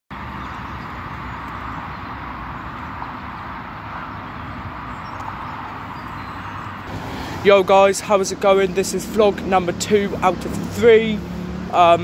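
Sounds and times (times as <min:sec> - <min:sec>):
road traffic roar: 0:00.1 - 0:12.0.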